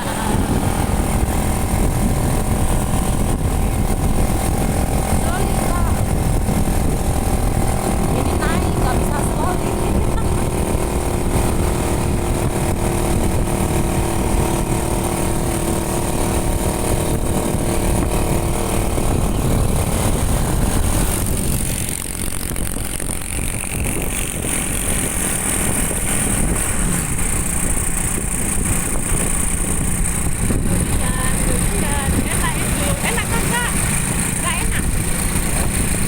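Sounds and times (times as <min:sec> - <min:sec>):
motorcycle engine running: 0:00.0 - 0:36.0
rushing wind: 0:00.0 - 0:36.0
traffic noise: 0:00.0 - 0:36.0.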